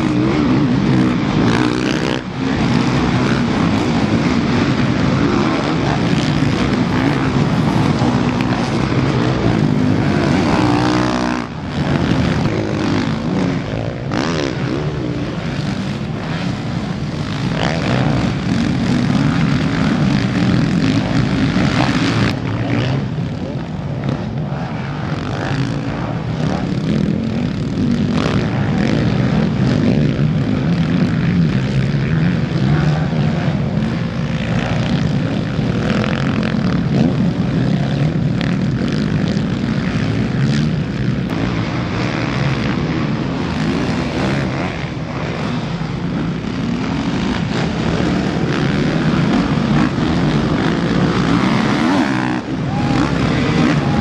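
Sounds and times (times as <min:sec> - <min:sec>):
dirt bike engines racing: 0:00.0 - 0:54.0.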